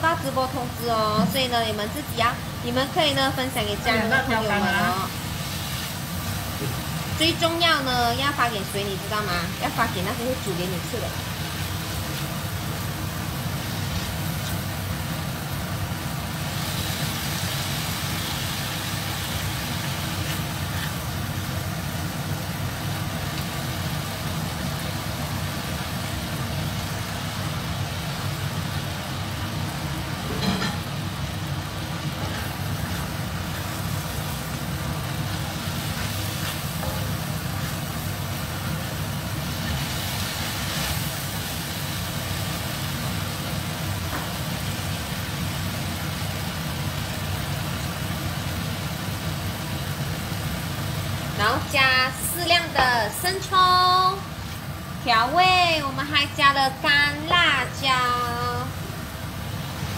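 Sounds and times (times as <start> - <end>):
low mechanical hum: 0.0 - 59.9
vegetables sizzling in a wok: 0.0 - 59.9.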